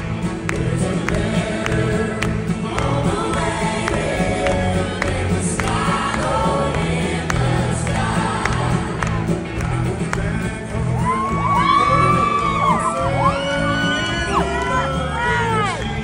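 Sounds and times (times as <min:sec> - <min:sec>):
live country band: 0:00.0 - 0:16.0
steady drum beat: 0:00.0 - 0:16.0
singers singing together: 0:00.1 - 0:16.0.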